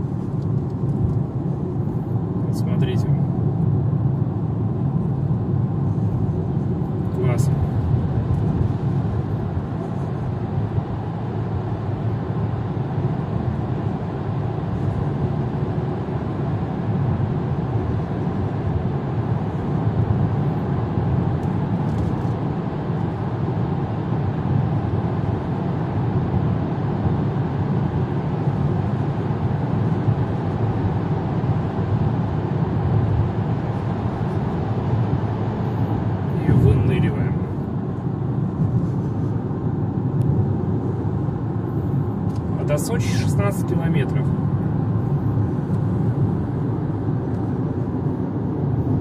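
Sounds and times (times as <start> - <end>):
car interior road and engine noise: 0.0 - 49.0.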